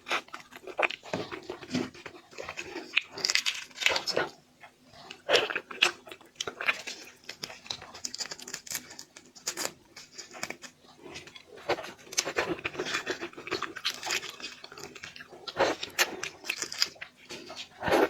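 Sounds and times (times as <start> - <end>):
chewing and crunching food: 0.0 - 18.0.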